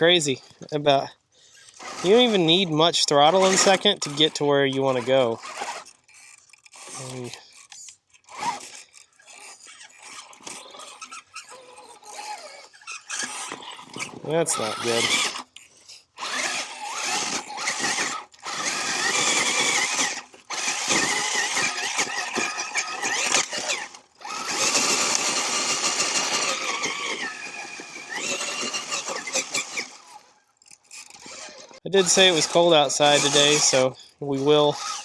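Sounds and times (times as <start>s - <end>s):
electric motor whining: 1.6s - 15.6s, 16.2s - 35.0s.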